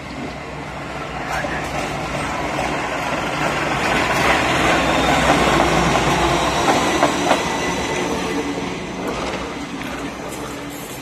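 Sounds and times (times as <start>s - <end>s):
locomotive engine running: 0.1s - 11.0s
steel wheels clattering on rails: 1.2s - 11.0s.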